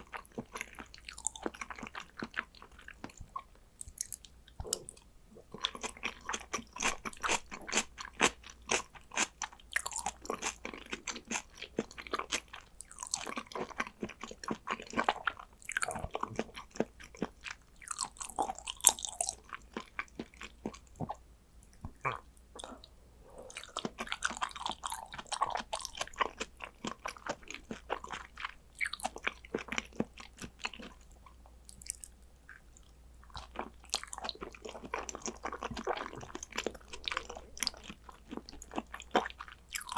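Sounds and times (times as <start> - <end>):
chewing and biting: 0.1 - 31.0, 33.3 - 39.9.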